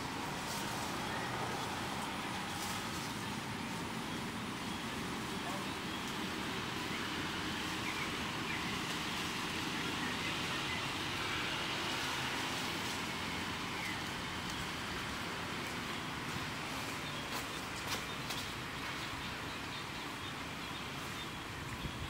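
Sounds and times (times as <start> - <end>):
outdoor background rush: 0.0 - 22.0.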